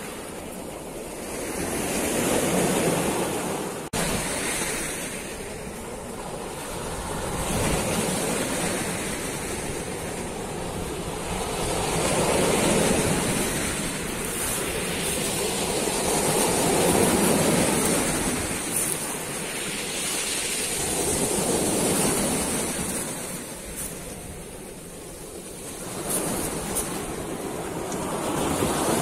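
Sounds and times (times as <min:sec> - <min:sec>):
waves breaking against sea wall: 0:00.0 - 0:29.0.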